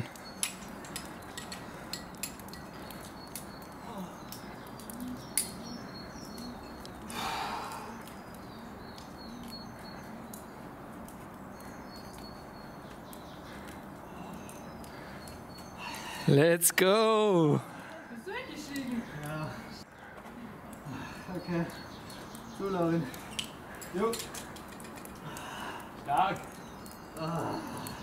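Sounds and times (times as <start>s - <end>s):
climbing gear clicks and scrapes: 0.0s - 16.0s, 21.6s - 28.0s
faint outdoor hiss: 0.0s - 28.0s.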